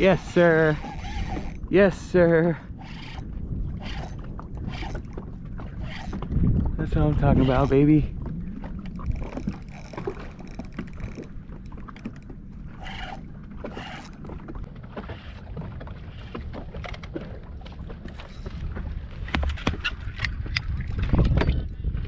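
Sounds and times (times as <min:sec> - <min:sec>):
water lapping against boat hull: 0:00.0 - 0:22.0
wind on microphone: 0:00.0 - 0:22.0.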